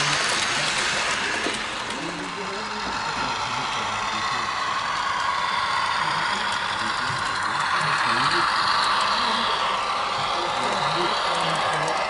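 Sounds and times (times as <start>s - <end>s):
model trains whirring on track: 0.0s - 12.0s.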